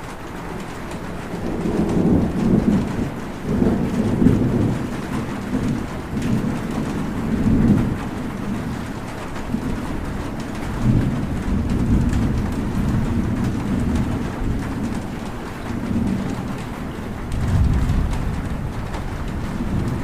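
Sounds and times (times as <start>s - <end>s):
steady rain: 0.0s - 20.0s
low rolling thunder: 0.6s - 20.0s.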